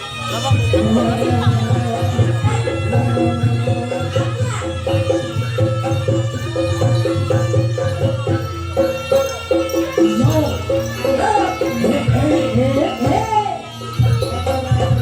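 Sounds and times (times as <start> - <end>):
drums pulsing: 0.0 - 15.0
gamelan melody: 0.0 - 15.0.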